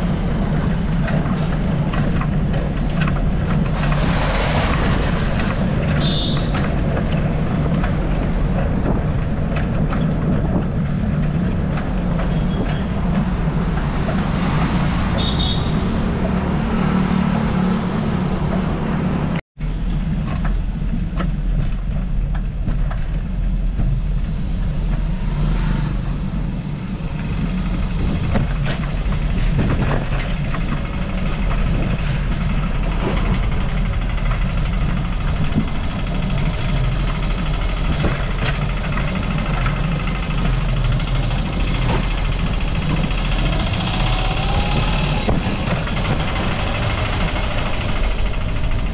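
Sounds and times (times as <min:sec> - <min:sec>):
road traffic rumble: 0:00.0 - 0:48.9.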